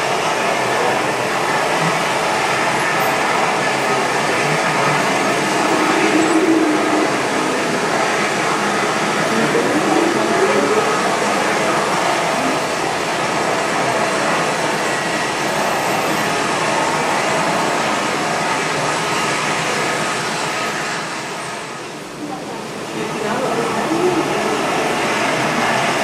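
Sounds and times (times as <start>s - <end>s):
model trains whirring on track: 0.0s - 26.0s.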